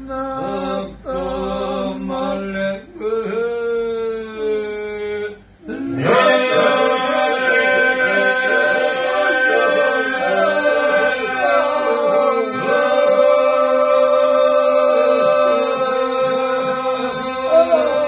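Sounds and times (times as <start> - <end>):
men singing unaccompanied: 0.0 - 18.0.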